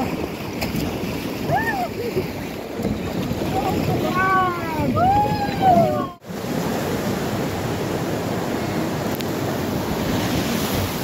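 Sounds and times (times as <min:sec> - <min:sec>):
river water rushing: 0:00.0 - 0:11.0
wind on microphone: 0:00.0 - 0:11.0.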